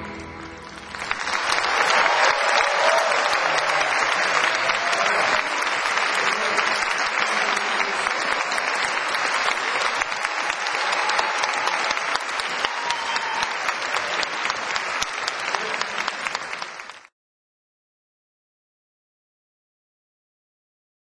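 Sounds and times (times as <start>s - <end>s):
audience applauding: 0.0s - 17.1s.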